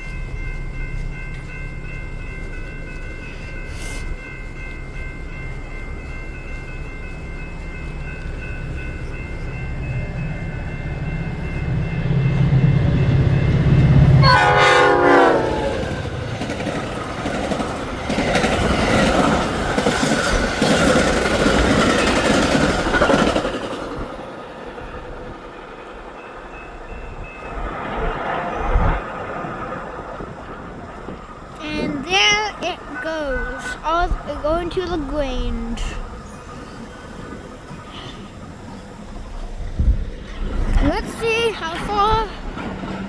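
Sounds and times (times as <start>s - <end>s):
locomotive engine hum: 0.0s - 23.4s, 29.1s - 43.0s
train cars rumbling and clattering: 0.0s - 43.0s.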